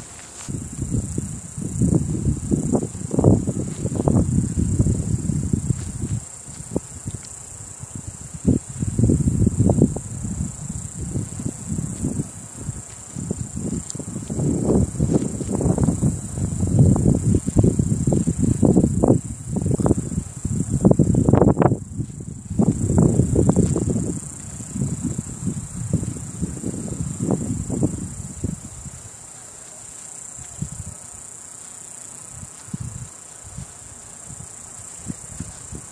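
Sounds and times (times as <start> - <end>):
wind buffeting microphone: 0.0 - 29.5, 30.2 - 31.4, 32.0 - 35.9
insects droning: 0.0 - 35.9.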